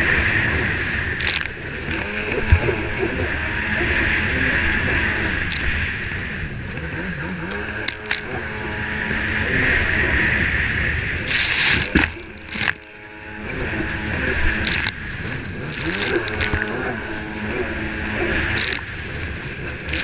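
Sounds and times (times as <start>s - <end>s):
hull slapping water: 0.0s - 20.0s
jet ski engine running hard: 0.0s - 20.0s
water splashing: 0.0s - 20.0s.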